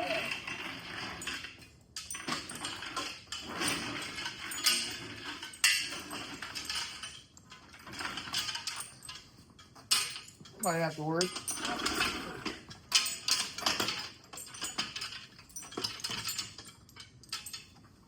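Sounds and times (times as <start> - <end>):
metal rattling and clanking: 0.0 - 18.0.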